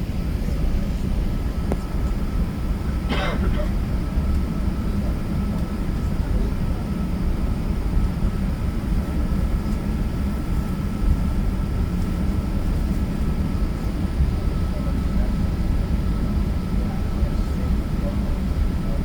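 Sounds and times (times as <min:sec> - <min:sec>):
aircraft cabin engine rumble: 0:00.0 - 0:19.0.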